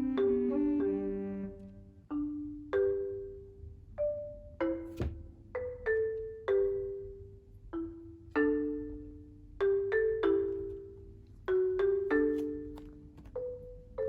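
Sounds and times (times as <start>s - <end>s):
mallet percussion melody: 0.0s - 14.0s.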